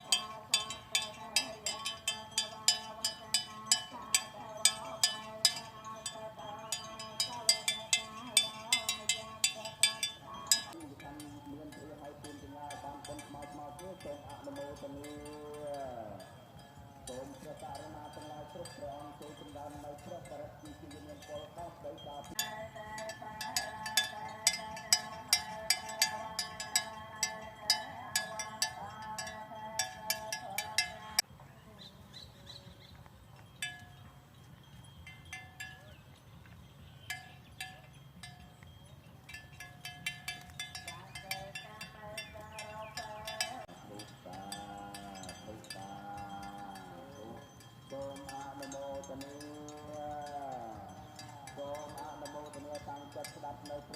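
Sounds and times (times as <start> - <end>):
cowbells clanking: 0.0 - 31.3, 33.0 - 53.9.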